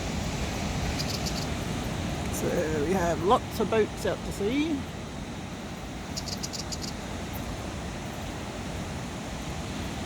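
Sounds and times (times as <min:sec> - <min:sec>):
surf rushing: 0:00.0 - 0:10.0
wind: 0:00.0 - 0:10.0.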